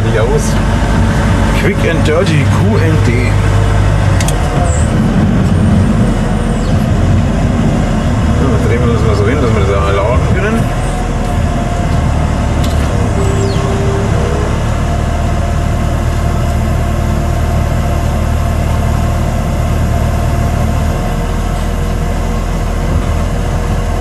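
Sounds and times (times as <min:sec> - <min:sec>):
loader engine running low: 0:00.0 - 0:24.0.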